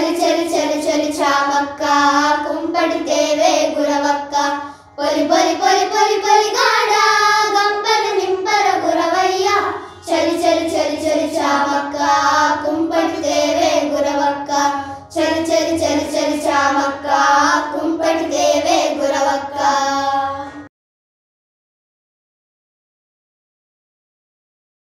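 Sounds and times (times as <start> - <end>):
girls singing together: 0.0 - 20.7.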